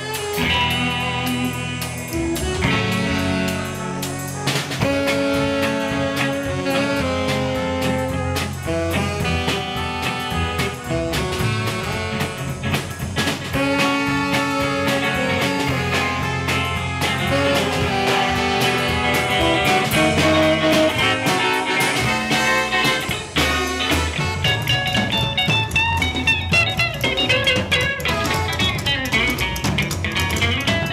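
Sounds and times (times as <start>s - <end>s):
swing band playing: 0.0s - 30.9s.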